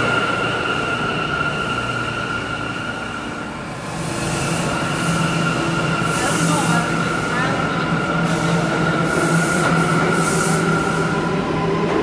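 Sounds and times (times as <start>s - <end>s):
pulsing rumble of train cars: 0.0s - 12.0s
subway train high-pitched whine: 0.0s - 12.0s.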